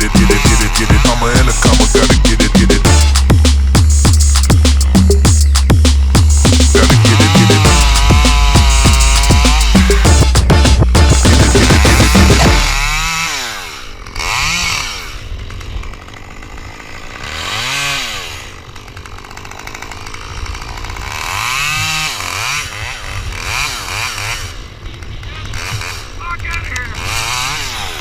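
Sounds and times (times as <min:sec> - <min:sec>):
chainsaw engine revving: 0:00.0 - 0:28.0.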